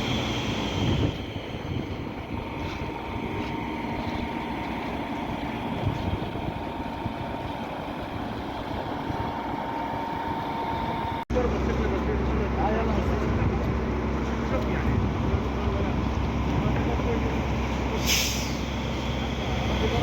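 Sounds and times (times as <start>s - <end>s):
concrete pump engine rumble: 0.0s - 20.0s.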